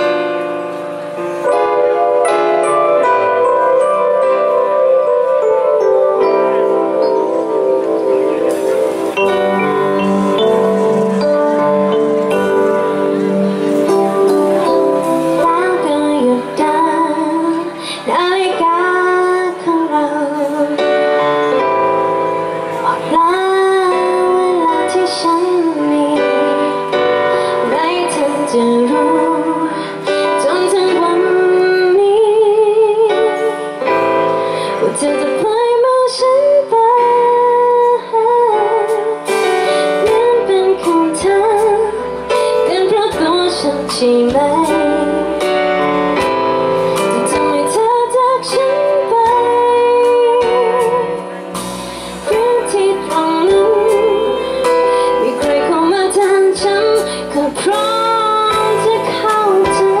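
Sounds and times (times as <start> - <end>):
band accompaniment: 0.0 - 60.0
woman singing a sad ballad: 10.2 - 22.0, 22.7 - 60.0.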